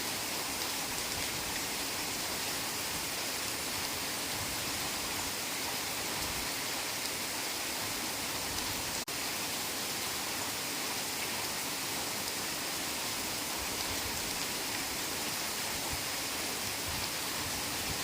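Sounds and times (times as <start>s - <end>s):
heavy rain in forest: 0.0s - 18.0s.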